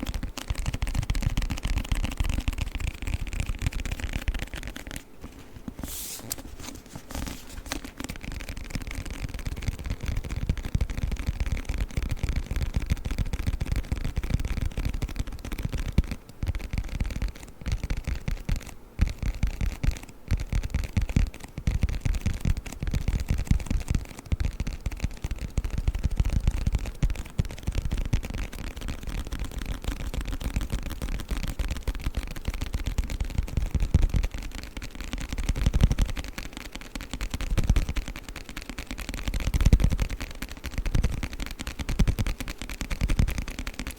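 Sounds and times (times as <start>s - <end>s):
scratching on a book: 0.0s - 43.9s
tapping on a book: 0.0s - 43.9s.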